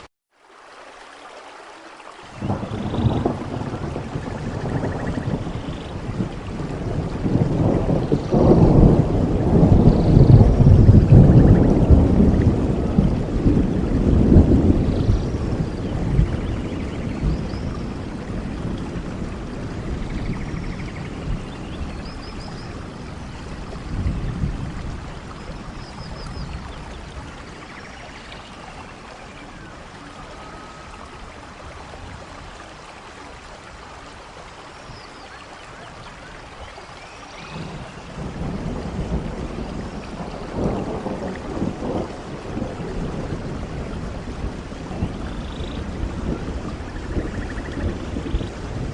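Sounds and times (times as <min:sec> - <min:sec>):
steady rainfall: 0:00.0 - 0:48.9
rolling thunder: 0:02.4 - 0:32.8, 0:36.8 - 0:48.9.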